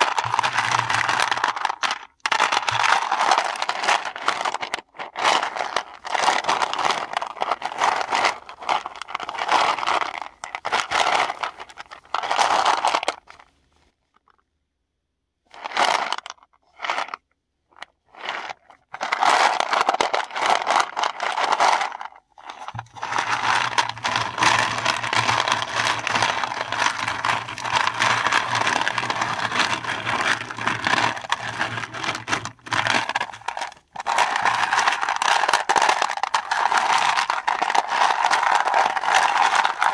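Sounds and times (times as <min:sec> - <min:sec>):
mothballs crushed by hand: 0:00.0 - 0:13.2, 0:19.0 - 0:39.9.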